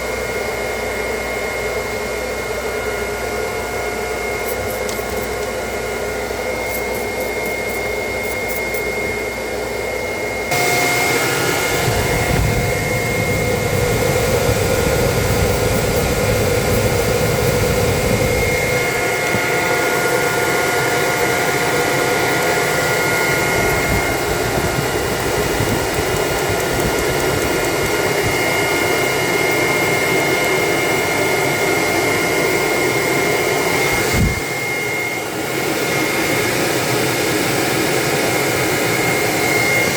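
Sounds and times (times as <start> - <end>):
motor whine over rushing air: 0.0 - 39.9.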